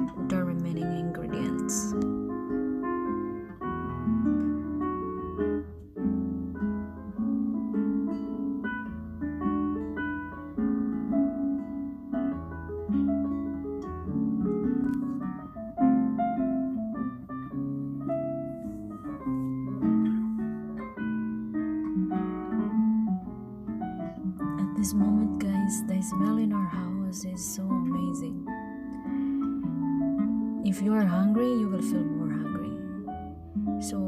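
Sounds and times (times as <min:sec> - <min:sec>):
plucked guitar melody: 0:00.0 - 0:34.0.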